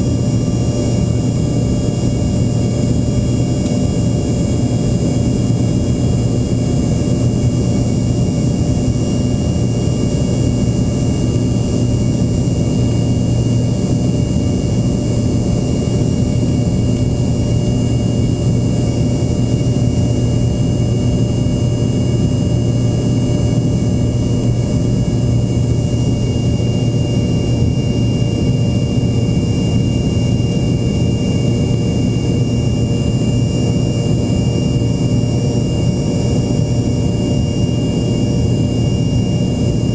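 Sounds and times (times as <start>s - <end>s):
high engine whine: 0.0s - 39.9s
jet engine cabin drone: 0.0s - 39.9s.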